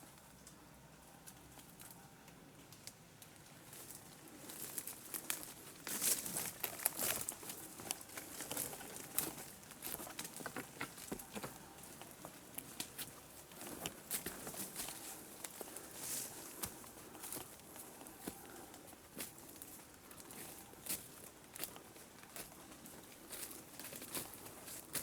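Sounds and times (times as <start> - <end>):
leaves and twigs rustling: 2.6 - 25.0.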